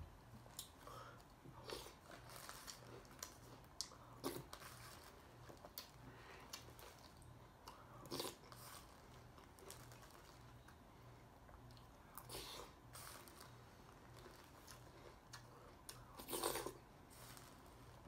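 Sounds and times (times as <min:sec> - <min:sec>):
chewing dry cereal: 0:00.4 - 0:18.0.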